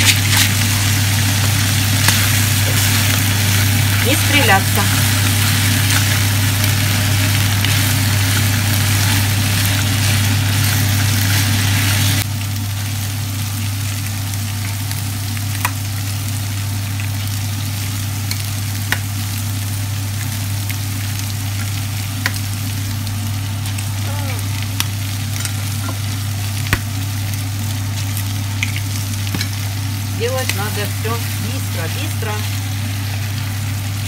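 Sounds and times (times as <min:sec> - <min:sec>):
livers sizzling in a frying pan: 0:00.0 - 0:34.0
steady low hum: 0:00.0 - 0:34.0.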